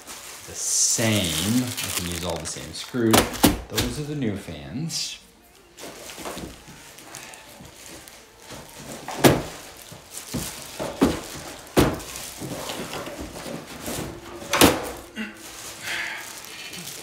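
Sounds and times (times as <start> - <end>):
cardboard and plastic rustling: 0.0 - 4.2, 5.5 - 17.0.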